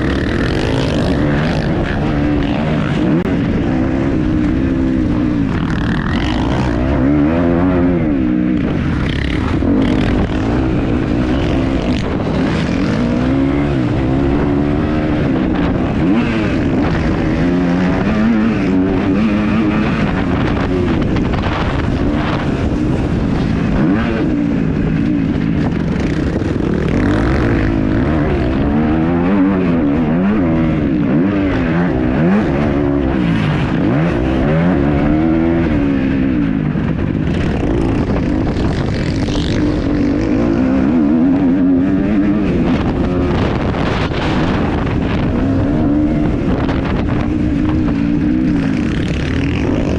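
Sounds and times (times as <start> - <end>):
motocross engine revving: 0.0 - 36.5, 37.2 - 49.9.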